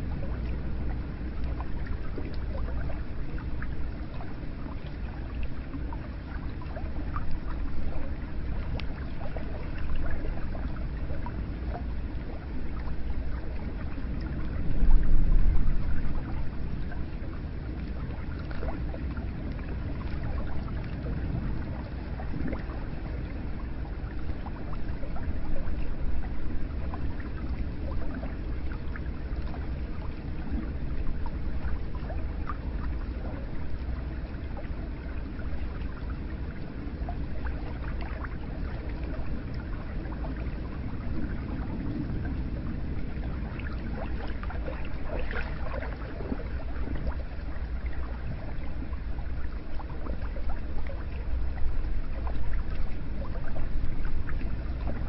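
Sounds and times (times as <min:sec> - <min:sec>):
water flowing and trickling: 0:00.0 - 0:55.0
water splashes and drips: 0:00.0 - 0:55.0.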